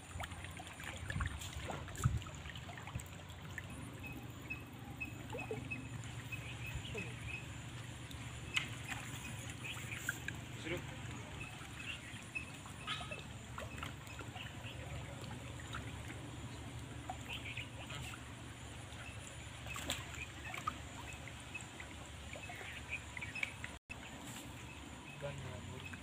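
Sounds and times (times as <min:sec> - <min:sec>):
lake water lapping at shore: 0:00.0 - 0:26.0.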